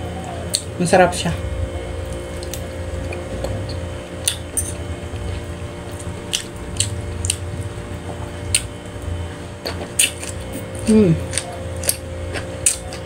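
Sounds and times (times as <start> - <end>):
steady low hum: 0.0 - 13.0
person chewing soft food: 0.2 - 0.8, 1.6 - 13.0.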